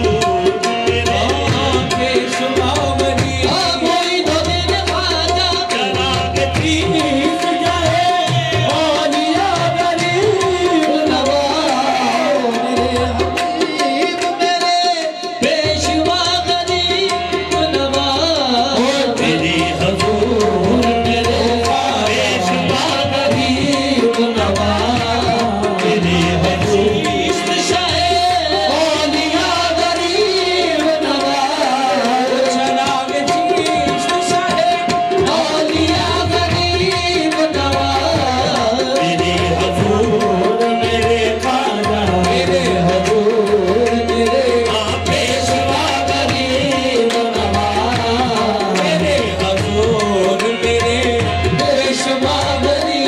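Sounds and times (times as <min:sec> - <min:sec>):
harmonium note: 0:00.0 - 0:53.0
tabla: 0:00.0 - 0:53.0.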